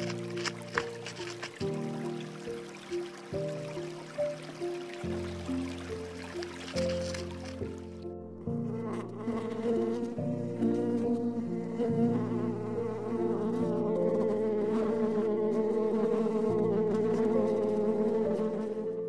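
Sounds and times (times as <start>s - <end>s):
honeybees buzzing: 0.0s - 8.0s, 8.8s - 19.0s.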